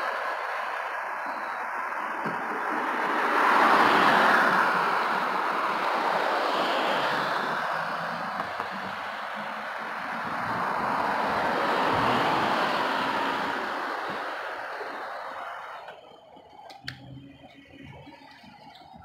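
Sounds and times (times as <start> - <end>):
vehicle passing on road: 0.0 - 19.0.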